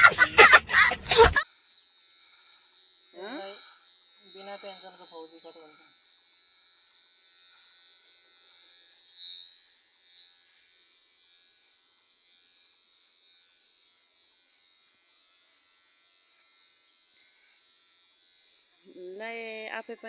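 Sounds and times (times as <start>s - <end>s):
electric hair clipper buzzing: 0.0s - 20.0s.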